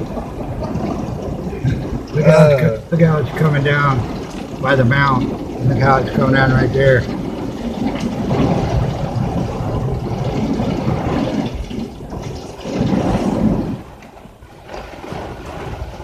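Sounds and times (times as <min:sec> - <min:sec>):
heavy rain on car roof: 0:00.0 - 0:16.0.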